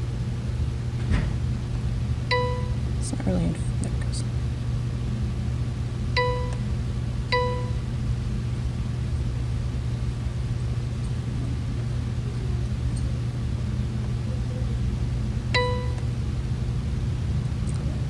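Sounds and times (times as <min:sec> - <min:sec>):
low hum: 0:01.6 - 0:18.0.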